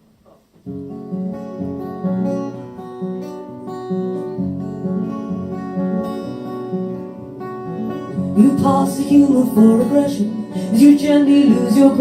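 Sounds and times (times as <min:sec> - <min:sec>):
acoustic guitar strumming: 0:00.2 - 0:12.0.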